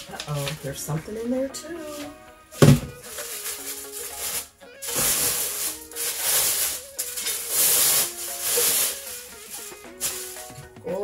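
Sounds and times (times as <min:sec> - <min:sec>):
plastic bag crinkling: 0:00.0 - 0:01.3, 0:01.9 - 0:10.8
background music: 0:00.0 - 0:11.0.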